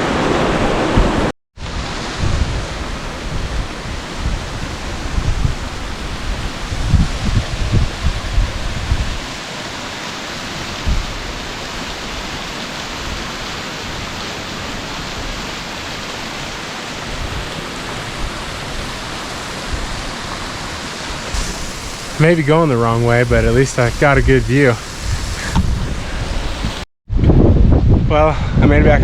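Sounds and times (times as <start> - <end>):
creek water rushing: 1.7 - 26.8.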